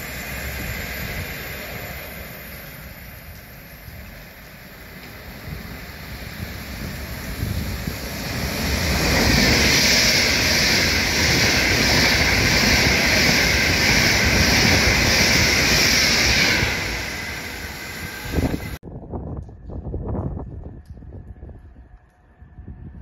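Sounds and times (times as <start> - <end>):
train rushing past: 0.0 - 18.8.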